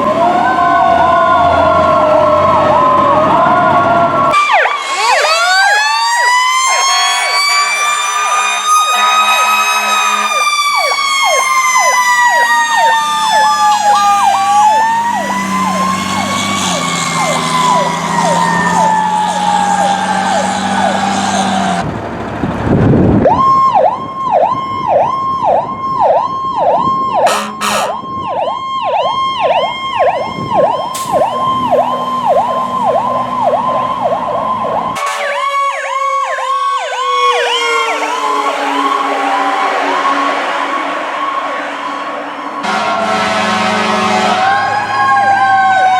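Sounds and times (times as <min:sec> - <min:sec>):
electronic siren wail and warble: 0:00.0 - 0:21.9, 0:23.0 - 0:45.9
rapid siren warble: 0:04.2 - 0:21.8, 0:23.2 - 0:45.9.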